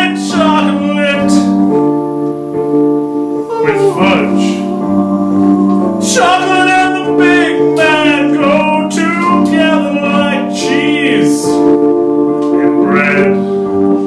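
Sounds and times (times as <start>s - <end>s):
person singing: 0.0s - 1.7s, 3.4s - 14.0s
instrumental chords: 0.0s - 14.0s.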